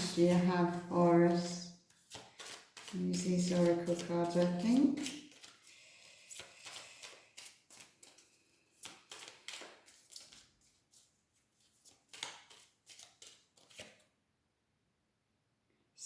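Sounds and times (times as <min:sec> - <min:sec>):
cards being shuffled: 0:00.0 - 0:14.1.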